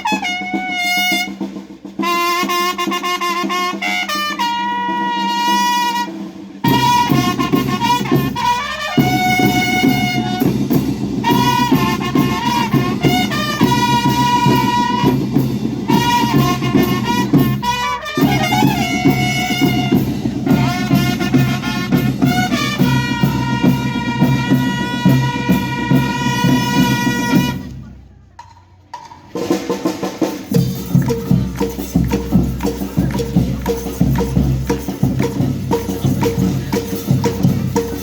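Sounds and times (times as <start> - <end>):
band playing melody: 0.0 - 27.8, 29.4 - 38.0
steady drumming: 0.0 - 38.0.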